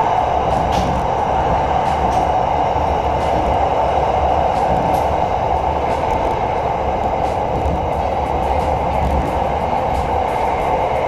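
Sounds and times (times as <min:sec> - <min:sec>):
electric train rumbling inside carriage: 0:00.0 - 0:11.0.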